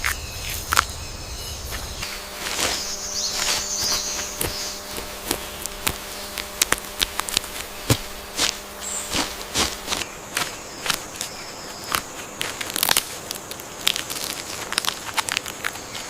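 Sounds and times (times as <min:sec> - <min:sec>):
high hissing buzz: 0:00.0 - 0:16.0
twigs and leaves crackling: 0:00.0 - 0:16.0.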